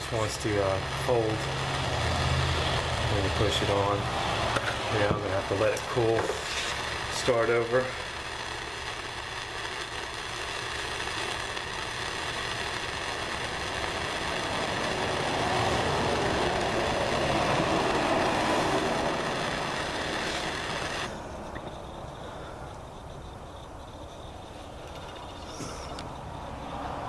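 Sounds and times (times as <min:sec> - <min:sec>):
heat gun blowing with motor whine: 0:00.0 - 0:27.0.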